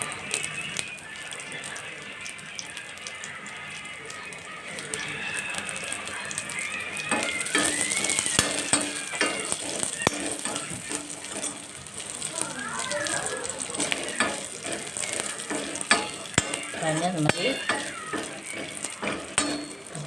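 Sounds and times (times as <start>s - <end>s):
coconut sizzling in a pan: 0.0s - 20.0s
spatula stirring in a pan: 0.0s - 20.0s.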